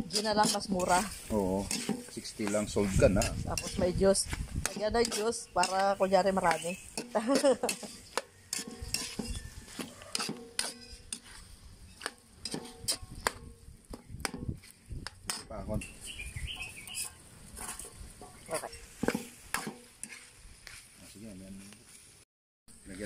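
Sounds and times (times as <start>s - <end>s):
metal spatula scraping a wok: 0.0s - 20.9s
meat sizzling in fat: 0.0s - 22.2s.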